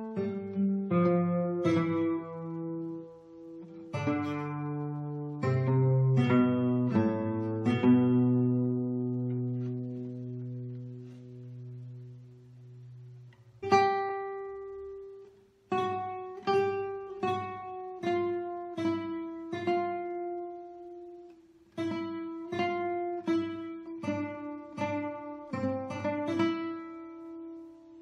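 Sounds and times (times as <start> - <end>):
classical guitar melody: 0.0 - 28.0.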